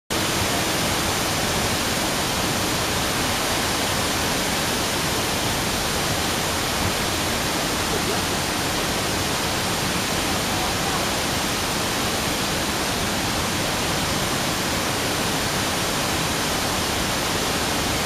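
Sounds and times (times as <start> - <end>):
water jet rushing from dam outlet: 0.1 - 18.0.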